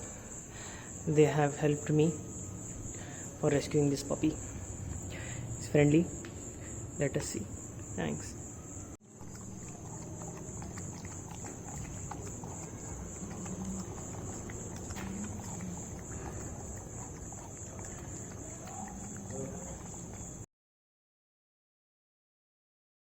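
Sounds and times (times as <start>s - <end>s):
high-pitched insect chorus: 0.0s - 20.4s.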